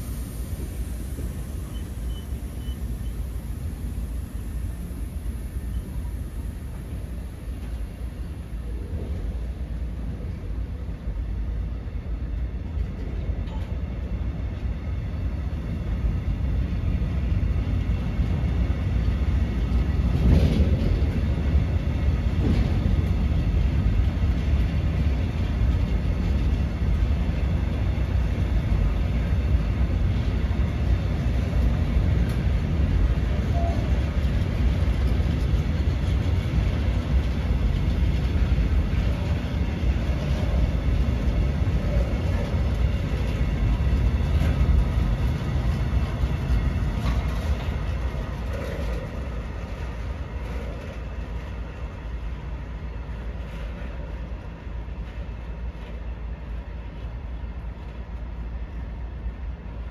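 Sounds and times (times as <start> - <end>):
freight wagons rumbling on rails: 0.0 - 59.9.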